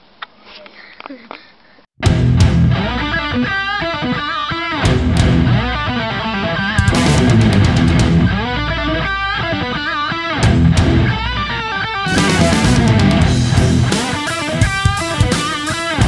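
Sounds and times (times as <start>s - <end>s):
rock music with electric guitar: 2.0s - 16.0s.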